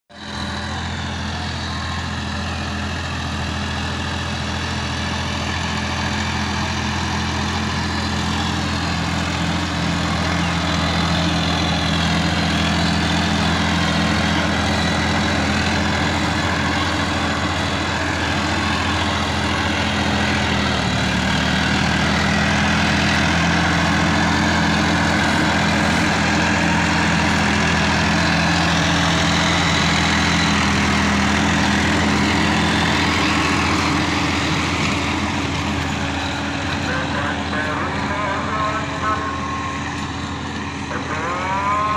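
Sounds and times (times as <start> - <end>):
tractor diesel engine under load: 0.1 - 41.9.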